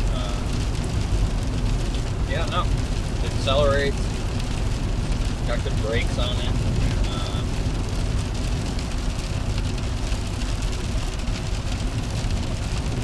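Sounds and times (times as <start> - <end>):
rain on a car: 0.0 - 13.0
road and engine rumble: 0.0 - 13.0.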